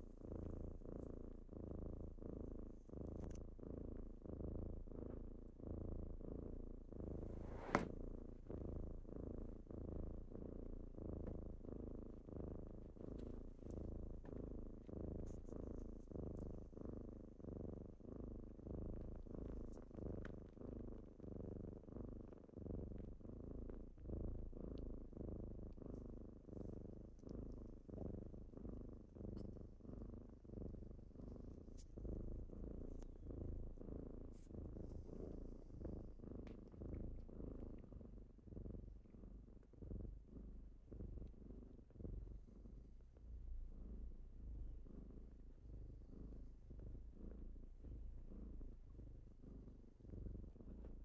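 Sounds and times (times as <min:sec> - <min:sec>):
kitten purring: 0:00.0 - 0:51.0.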